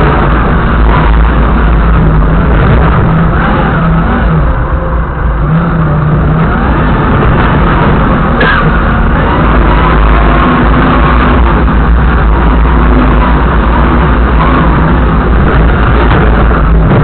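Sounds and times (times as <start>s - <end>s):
forklift engine running: 0.0s - 17.0s.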